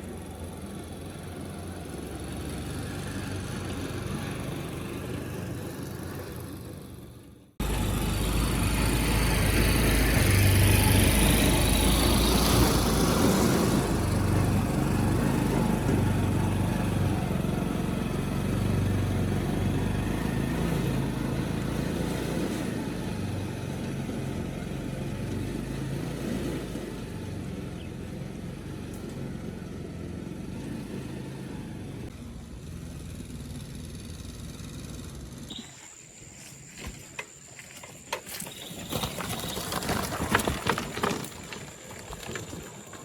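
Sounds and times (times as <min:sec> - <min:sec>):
motorcycle engine running: 0:00.0 - 0:35.6.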